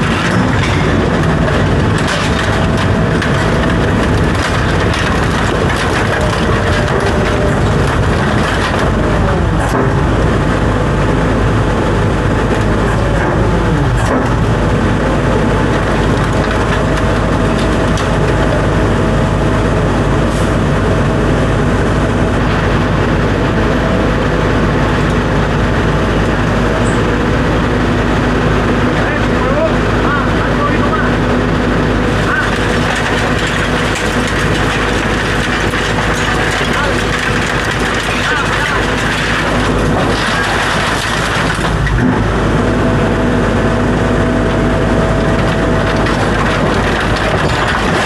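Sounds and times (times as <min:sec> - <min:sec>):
large engine running: 0:00.0 - 0:48.0.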